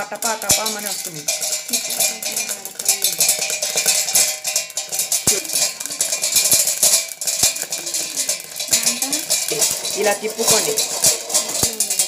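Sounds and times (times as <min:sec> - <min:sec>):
grains popping against metal lid: 0:00.0 - 0:12.0.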